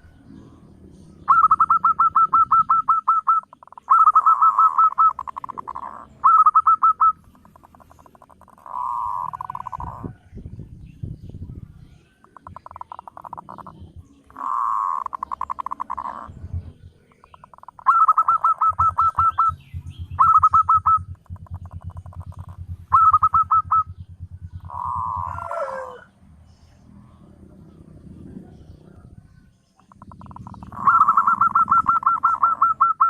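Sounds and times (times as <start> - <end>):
dove cooing: 1.2 - 10.2, 12.2 - 26.1, 27.8 - 33.0.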